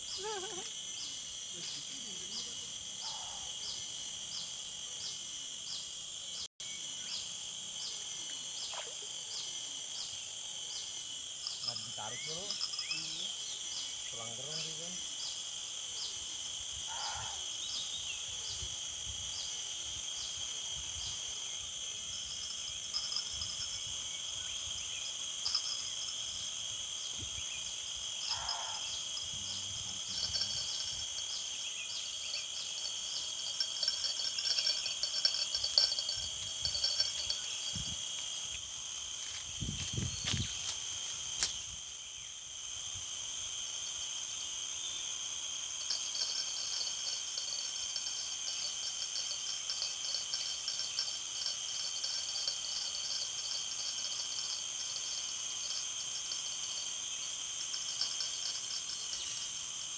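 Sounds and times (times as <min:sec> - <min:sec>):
crickets trilling: 0:00.0 - 0:59.9
insects chirping: 0:00.0 - 0:59.9.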